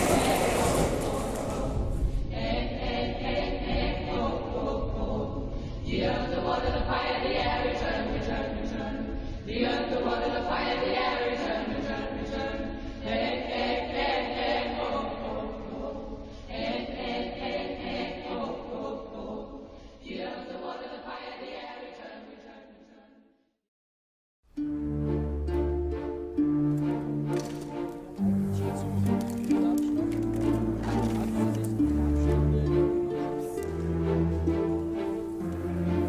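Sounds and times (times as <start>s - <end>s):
choir singing held chords: 0.0s - 23.2s, 24.6s - 36.0s.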